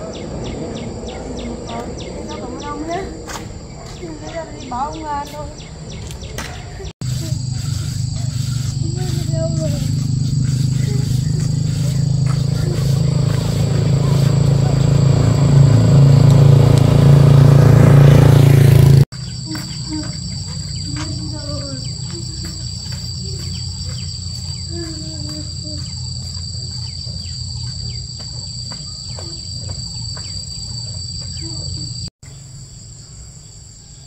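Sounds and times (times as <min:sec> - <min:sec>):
insects chirring: 0:00.0 - 0:17.0, 0:17.6 - 0:34.0
loud vehicle engine running: 0:00.0 - 0:32.1.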